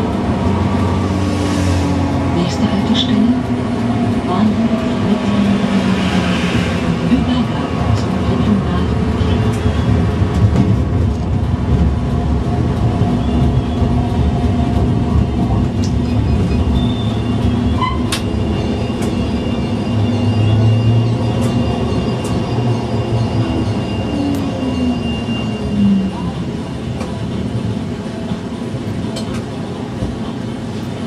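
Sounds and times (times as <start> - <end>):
tram motor and wheel hum: 0.0 - 31.0.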